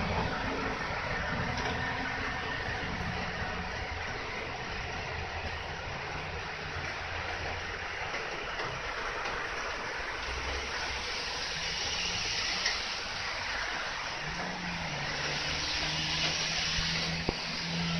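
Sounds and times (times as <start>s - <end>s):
railcar engine humming: 0.0s - 17.9s
rain hissing on platform: 0.0s - 17.9s.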